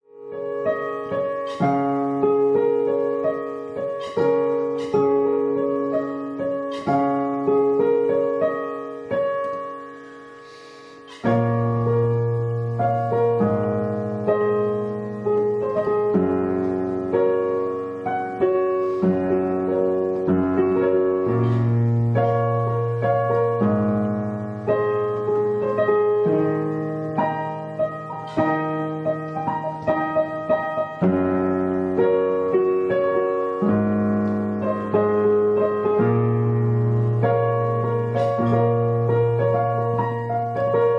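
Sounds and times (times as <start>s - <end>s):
digital piano chords: 0.0s - 40.9s.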